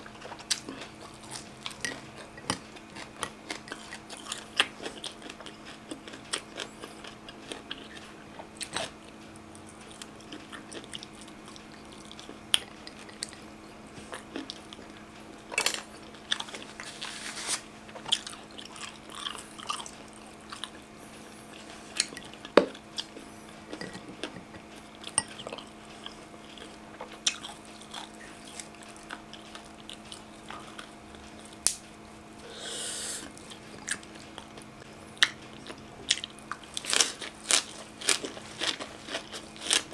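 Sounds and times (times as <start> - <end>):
faint steady hum: 0.0 - 39.9
chewing and biting: 0.1 - 17.1, 17.9 - 20.8, 21.4 - 31.8, 33.2 - 39.9.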